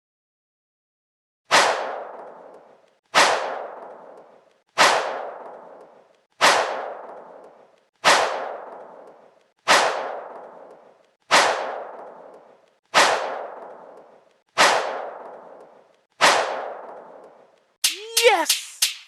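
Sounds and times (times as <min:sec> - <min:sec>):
sharp crack sound effect: 0:01.5 - 0:17.2, 0:17.8 - 0:19.0.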